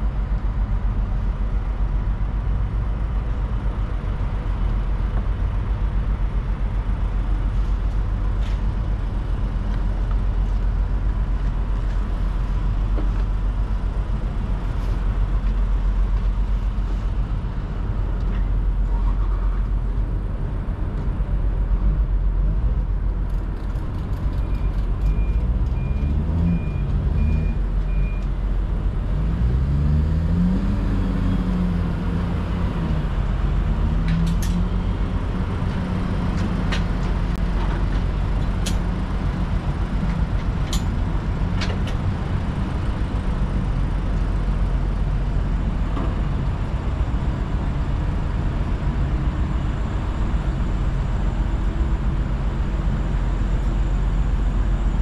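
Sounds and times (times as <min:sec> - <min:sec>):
vehicle engines running: 0:00.0 - 0:55.0.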